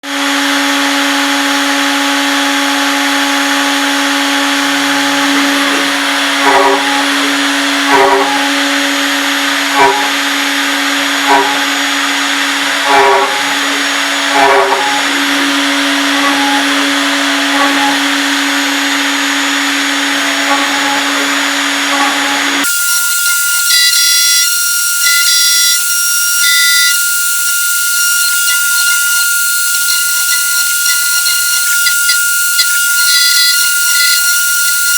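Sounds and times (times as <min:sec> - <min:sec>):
cnc machine motor hum: 0:00.0 - 0:34.9
high-pitched machine whine: 0:00.0 - 0:34.9.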